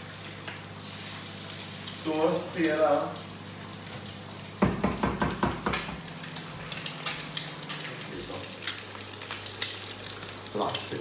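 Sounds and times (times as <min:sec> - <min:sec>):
eggs sizzling in a frying pan: 0:00.0 - 0:11.0.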